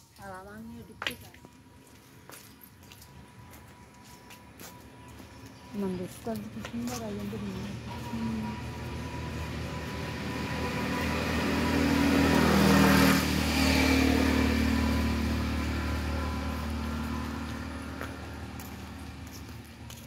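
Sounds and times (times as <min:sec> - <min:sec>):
vehicle driving past: 0:03.0 - 0:20.0.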